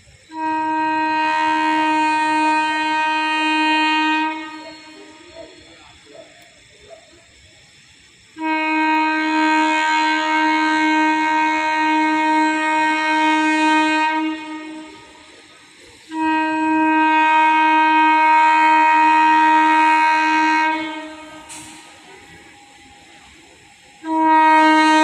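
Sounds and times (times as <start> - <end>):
locomotive horn blasts: 0.3 - 5.8, 8.4 - 25.0.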